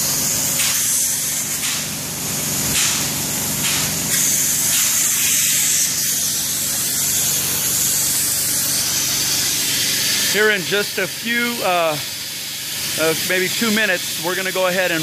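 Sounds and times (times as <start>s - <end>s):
spray gun hissing: 0.0s - 15.0s.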